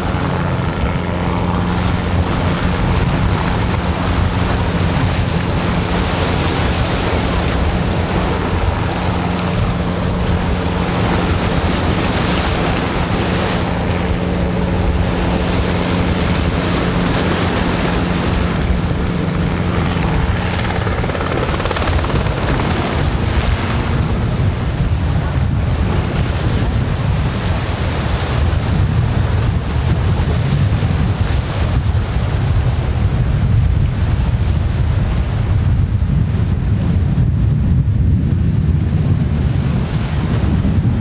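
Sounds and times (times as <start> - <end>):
helicopter flying overhead: 0.0 - 41.0
surf rushing: 0.0 - 41.0
wind buffeting microphone: 0.0 - 41.0.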